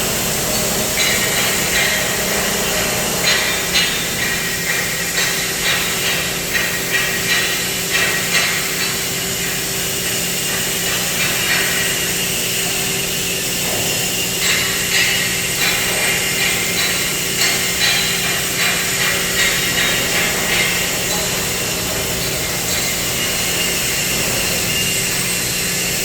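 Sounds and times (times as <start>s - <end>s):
machinery hum: 0.0s - 26.0s
sharp metallic knocks and clanks: 0.0s - 26.0s.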